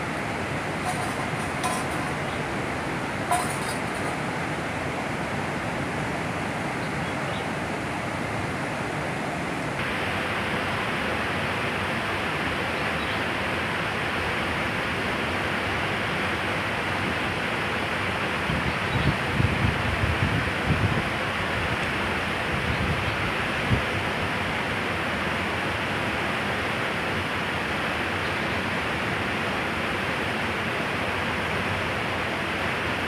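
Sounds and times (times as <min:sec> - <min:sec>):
fast-flowing river rushing: 0:00.0 - 0:33.0.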